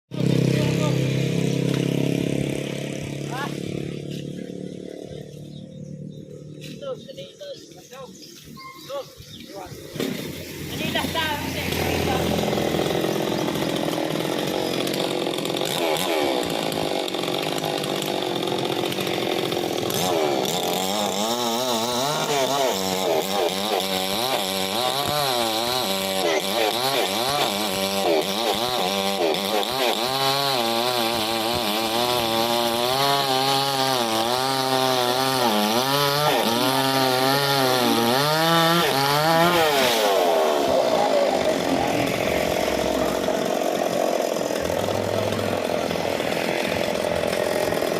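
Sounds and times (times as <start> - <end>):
chainsaw cutting wood: 0.1 - 7.2, 7.8 - 47.9.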